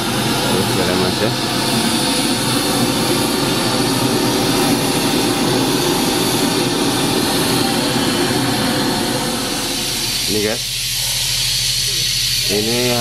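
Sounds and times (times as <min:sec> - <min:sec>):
hiss-like test noise through speakers: 0:00.0 - 0:13.0.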